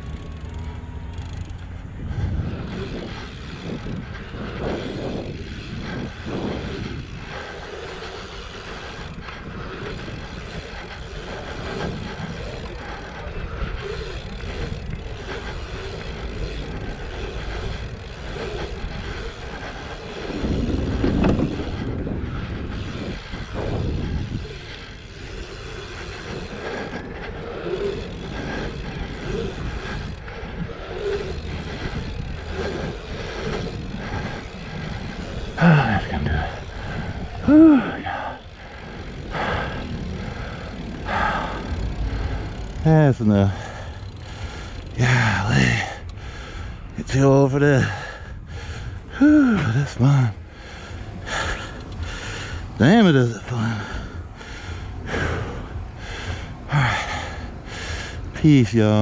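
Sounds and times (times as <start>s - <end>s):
rumbling tyre and bike noise: 0.0s - 59.0s
wind buffeting camera: 0.0s - 59.0s.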